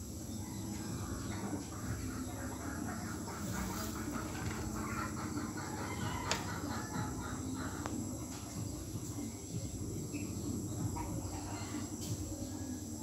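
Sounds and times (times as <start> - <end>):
rapid rhythmic chirping: 0.0 - 13.0
steady low hum: 0.0 - 13.0.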